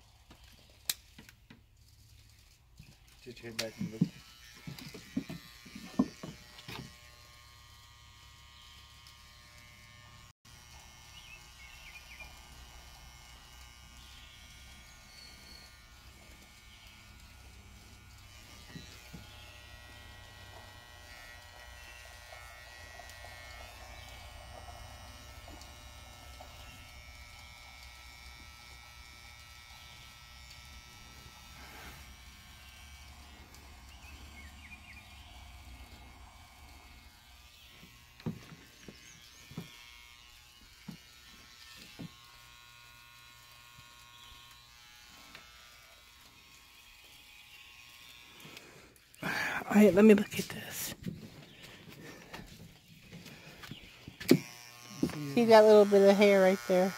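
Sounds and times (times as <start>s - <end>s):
electric hair clippers buzzing: 2.4s - 56.9s.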